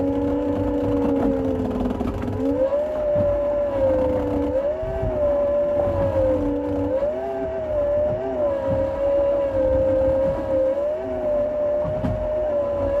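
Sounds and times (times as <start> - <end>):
vehicle engine whine: 0.0 - 13.0.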